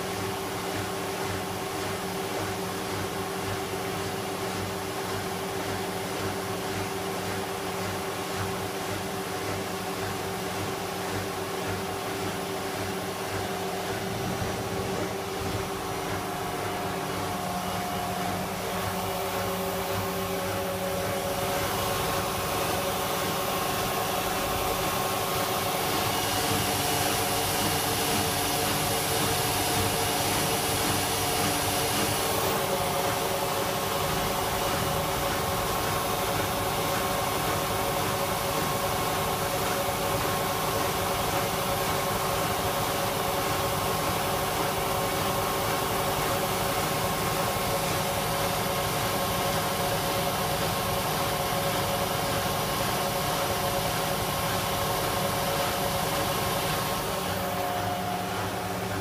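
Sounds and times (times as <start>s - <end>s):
washer-dryer spinning whir: 0.0s - 59.0s.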